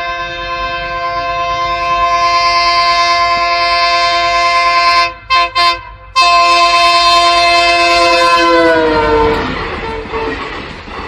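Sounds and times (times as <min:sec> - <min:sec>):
train horn blasts: 0:00.0 - 0:10.6.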